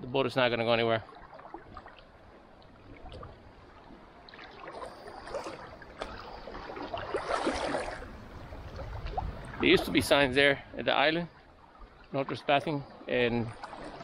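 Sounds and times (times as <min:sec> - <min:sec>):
water sloshing around wading legs: 0:00.8 - 0:10.3, 0:11.0 - 0:14.0.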